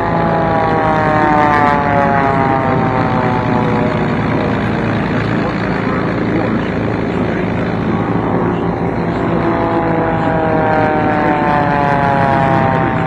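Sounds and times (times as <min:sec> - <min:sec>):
aircraft engine droning past: 0:00.0 - 0:13.0.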